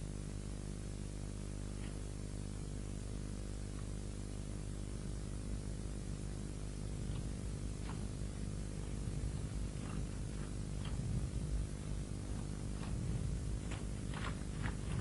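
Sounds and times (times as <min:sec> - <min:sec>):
low electrical hum: 0:00.0 - 0:15.0
tape hiss: 0:00.0 - 0:15.0.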